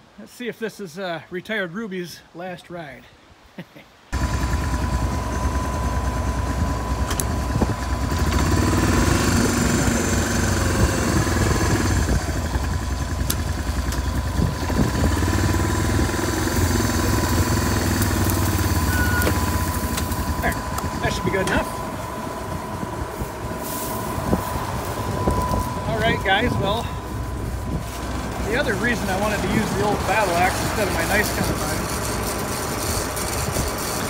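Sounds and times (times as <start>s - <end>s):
combine engine running: 4.2s - 34.0s
high whine: 4.2s - 34.0s.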